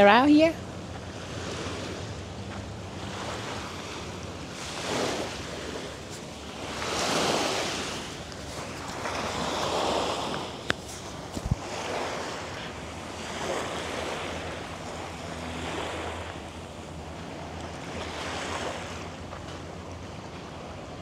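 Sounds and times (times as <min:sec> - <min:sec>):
wind buffeting microphone: 0:00.0 - 0:17.6
small waves washing onto beach: 0:00.0 - 0:21.0.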